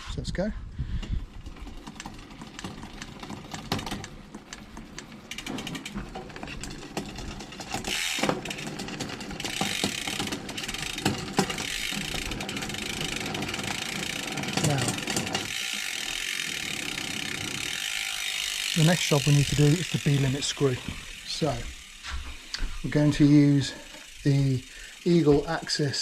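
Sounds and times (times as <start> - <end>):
bicycle chain running over cogs: 0.9 - 26.0
derailleur shifting chain: 1.0 - 26.0
freehub ratchet clicking: 1.0 - 26.0.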